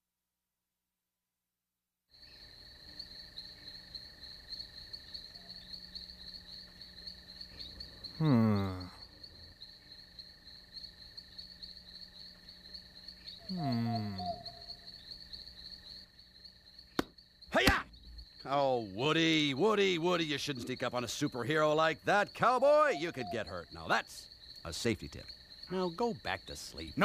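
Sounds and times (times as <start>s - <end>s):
crickets chirping: 2.1s - 27.0s.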